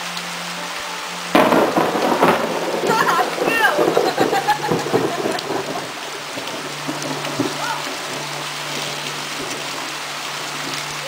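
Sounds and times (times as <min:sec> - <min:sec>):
heavy rain on grass: 0:00.0 - 0:11.0.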